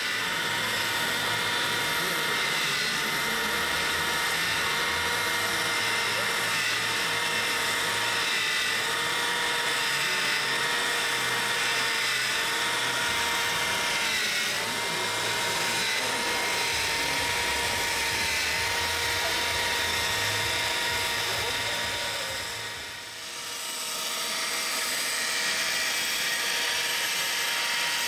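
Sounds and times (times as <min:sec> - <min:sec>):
high-pitched motor whine: 0:00.0 - 0:28.0.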